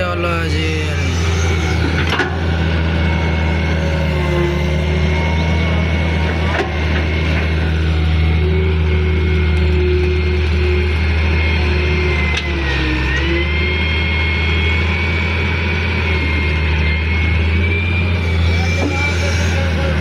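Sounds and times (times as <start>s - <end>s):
excavator diesel engine running: 0.0s - 20.0s
high hydraulic whine: 0.0s - 20.0s.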